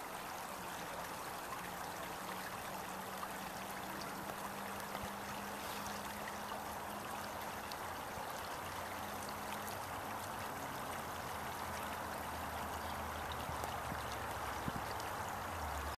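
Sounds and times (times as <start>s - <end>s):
stream water over rocks: 0.0s - 16.0s.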